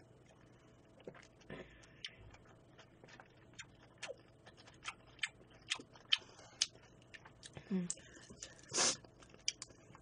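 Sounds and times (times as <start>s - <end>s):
chewing smacks: 0.4s - 7.6s, 8.3s - 10.0s.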